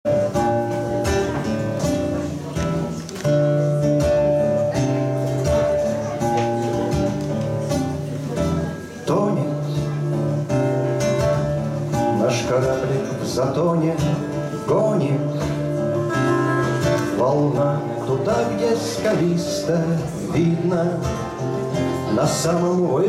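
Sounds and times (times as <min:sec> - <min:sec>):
acoustic guitars playing: 0:00.0 - 0:23.0.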